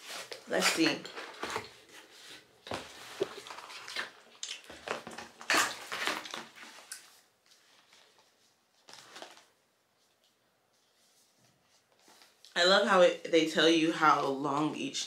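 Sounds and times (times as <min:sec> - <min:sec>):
cardboard and plastic rustling: 0:00.0 - 0:12.5.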